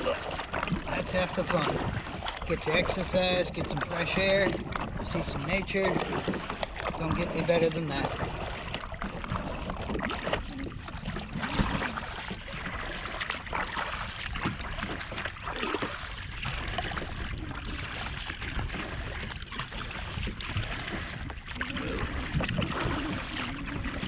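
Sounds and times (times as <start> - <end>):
paddle strokes splashing: 0.0 - 24.0
waves slapping hull: 0.0 - 24.0
wind rumbling on microphone: 0.0 - 24.0.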